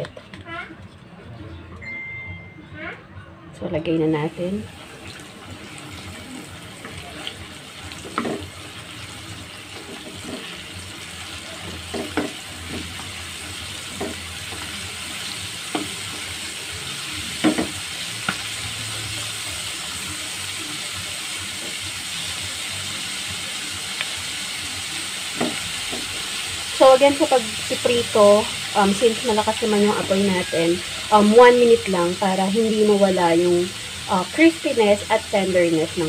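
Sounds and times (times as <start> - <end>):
food sizzling in hot oil: 4.3 - 36.0.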